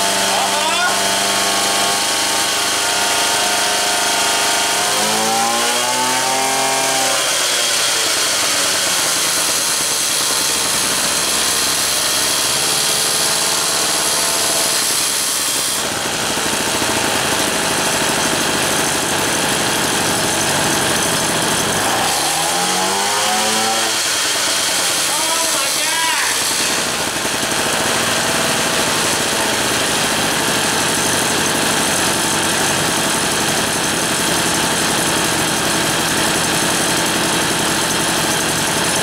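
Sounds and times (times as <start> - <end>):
moped engine running and revving: 0.0 - 39.0.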